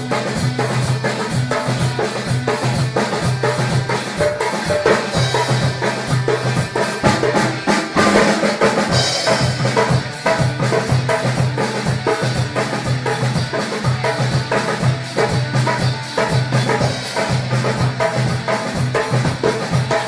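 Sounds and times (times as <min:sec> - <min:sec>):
music with drum beat and bass: 0:00.0 - 0:20.0.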